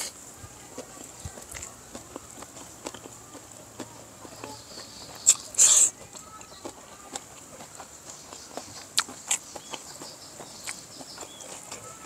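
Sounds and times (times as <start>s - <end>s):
chickens clucking: 0.0s - 12.0s
person chewing with mouth smacks: 0.0s - 12.0s.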